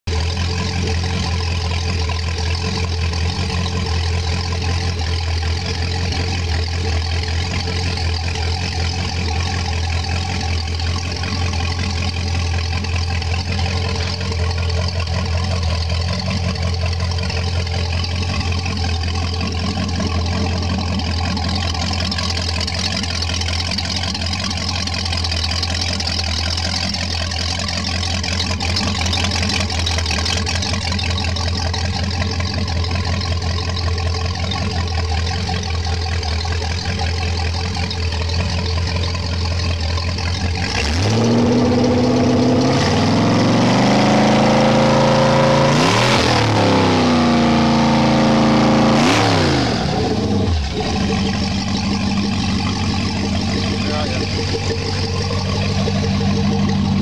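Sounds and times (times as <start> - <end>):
boat engine idling: 0.1 - 57.0.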